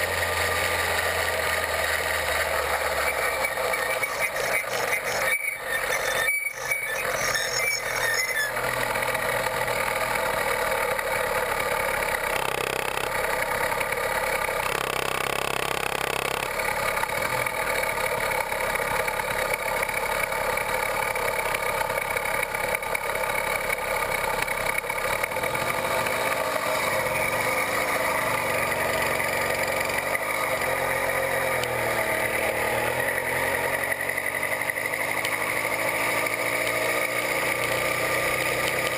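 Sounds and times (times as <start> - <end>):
two-stroke bicycle motor running: 0.0 - 38.9.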